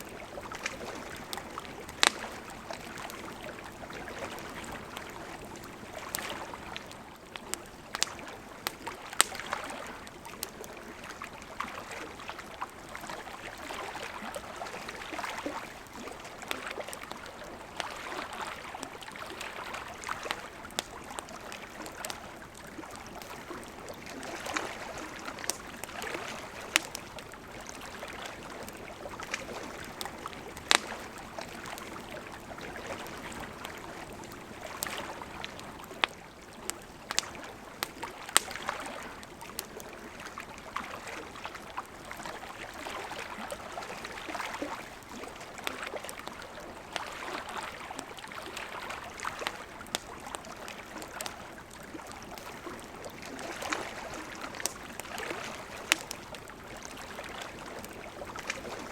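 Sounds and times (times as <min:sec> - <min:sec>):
campfire crackling: 0:00.0 - 0:58.9
lake waves lapping: 0:00.0 - 0:58.9.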